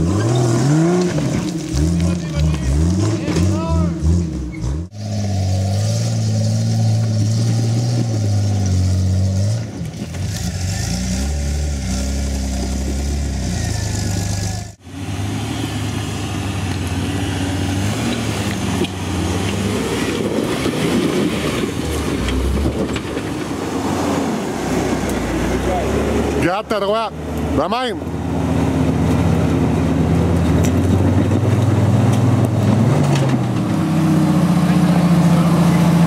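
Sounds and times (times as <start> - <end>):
off-road engines revving: 0.0 - 36.0.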